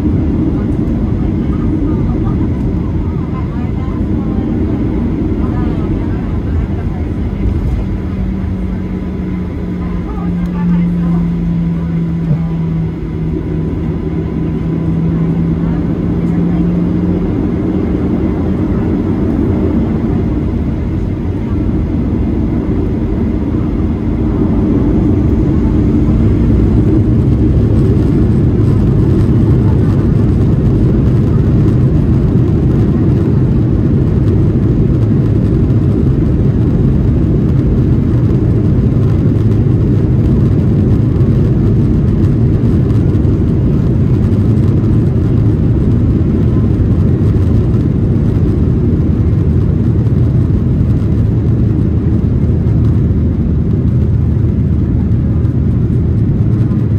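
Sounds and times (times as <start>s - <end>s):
jet engines rumbling in cabin: 0.0s - 56.9s.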